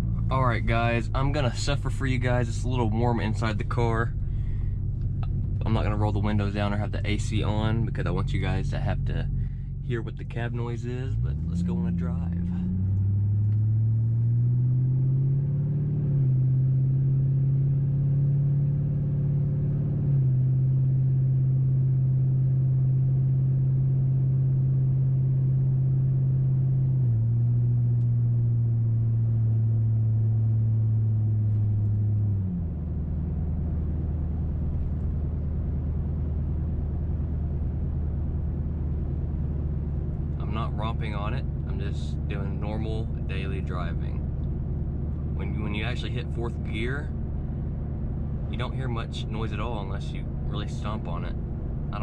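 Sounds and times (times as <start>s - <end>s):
car exhaust note: 0.0s - 52.0s.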